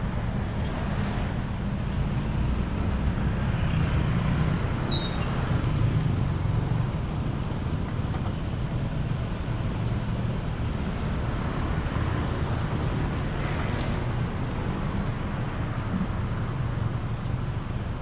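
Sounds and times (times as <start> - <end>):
cars and motorcycles rumbling: 0.0 - 18.0.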